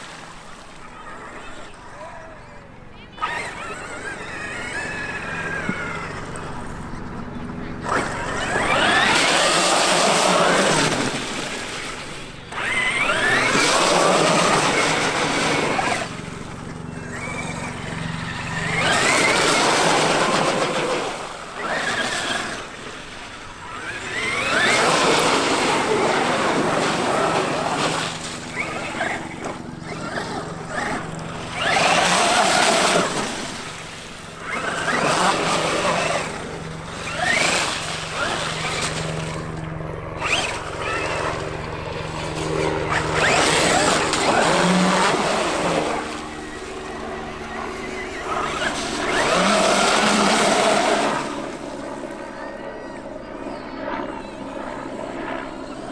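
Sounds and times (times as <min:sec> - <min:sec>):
rc truck motor whining: 0:01.0 - 0:51.6.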